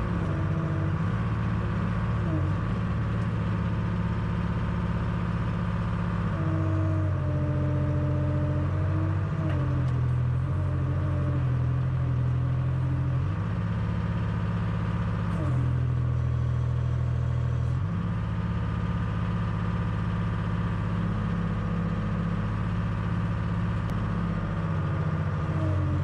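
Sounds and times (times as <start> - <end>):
backhoe engine running: 0.0 - 26.0.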